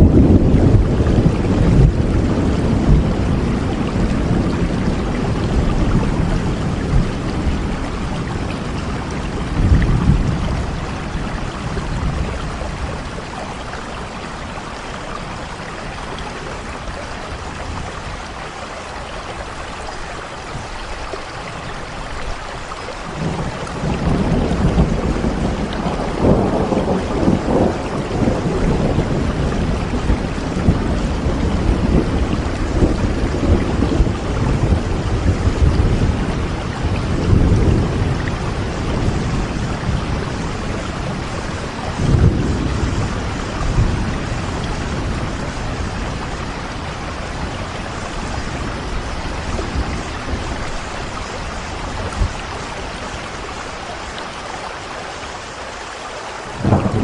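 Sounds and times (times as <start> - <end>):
low rolling thunder: 0.0 - 19.6, 21.4 - 54.3, 56.5 - 57.0
steady rain: 0.0 - 57.0.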